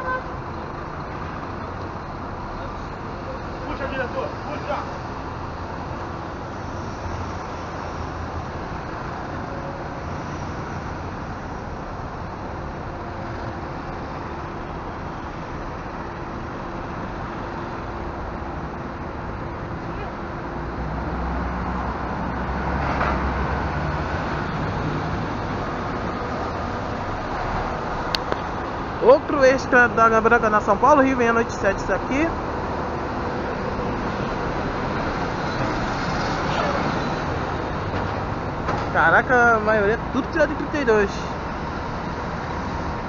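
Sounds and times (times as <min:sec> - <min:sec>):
street traffic noise: 0:00.0 - 0:43.0.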